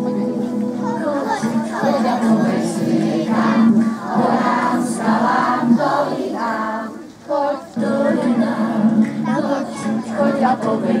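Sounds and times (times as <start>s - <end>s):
children singing in chorus: 0.1s - 11.0s.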